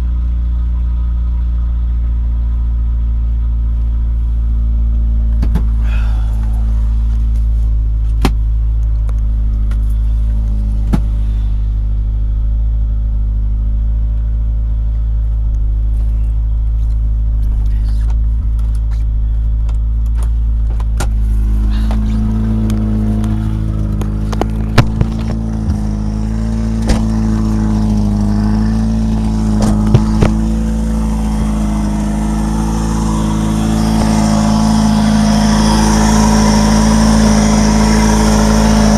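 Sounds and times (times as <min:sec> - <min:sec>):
car engine with exhaust leak: 0:00.0 - 0:38.9.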